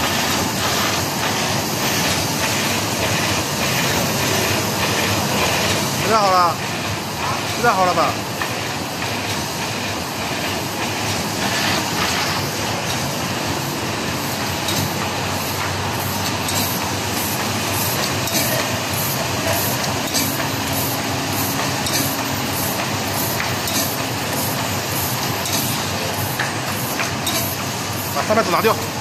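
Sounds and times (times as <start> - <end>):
laminating machine clatter: 0.0 - 29.0.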